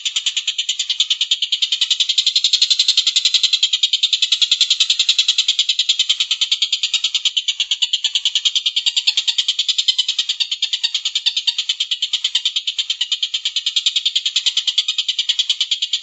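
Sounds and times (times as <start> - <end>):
bird rapid chattering trill: 0.0 - 16.0.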